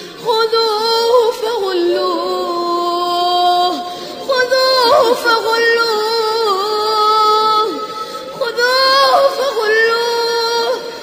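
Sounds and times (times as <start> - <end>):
person reciting melodically: 0.0 - 11.0.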